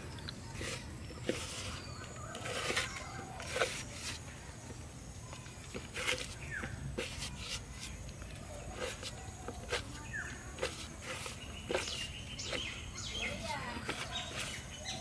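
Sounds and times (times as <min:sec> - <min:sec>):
bird chirp: 0:00.0 - 0:15.0
hand kneading wet paste: 0:00.0 - 0:15.0.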